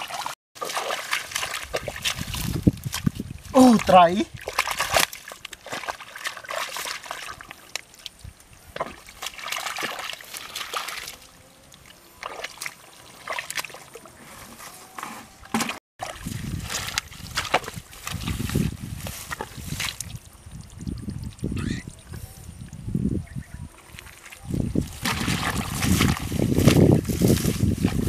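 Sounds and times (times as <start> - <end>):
hands squelching in wet mud: 0.0 - 15.0, 16.0 - 20.3, 23.8 - 28.0.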